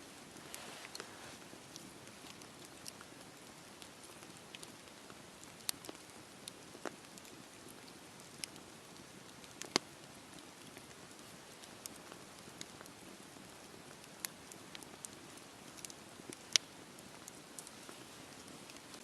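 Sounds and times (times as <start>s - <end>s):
campfire crackling and popping: 0.1s - 19.0s.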